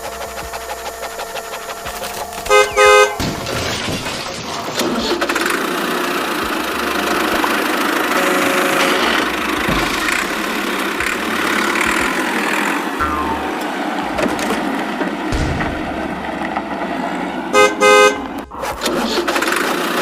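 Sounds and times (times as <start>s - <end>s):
tractor engine idling: 0.0s - 3.2s, 5.4s - 20.0s.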